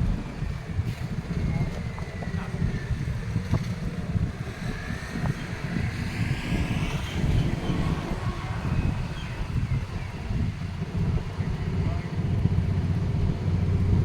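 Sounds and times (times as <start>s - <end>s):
diesel locomotive rumbling: 0.0s - 14.0s
wind buffeting microphone: 0.0s - 14.0s.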